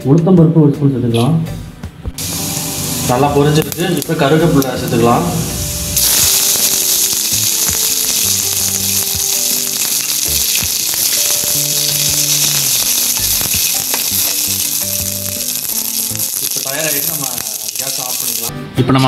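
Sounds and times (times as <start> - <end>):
seeds sizzling in hot oil: 2.2 - 18.5.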